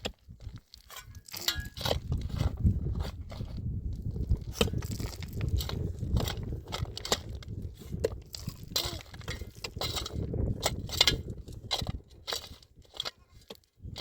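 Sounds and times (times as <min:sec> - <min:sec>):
irregular crunching and clicking: 0:00.0 - 0:14.0.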